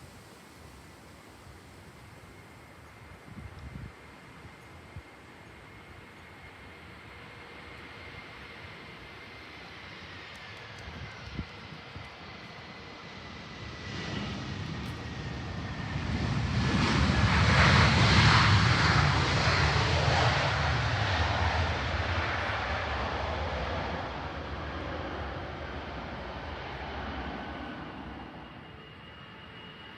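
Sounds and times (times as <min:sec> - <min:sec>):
jet engines passing by: 0:00.0 - 0:29.9.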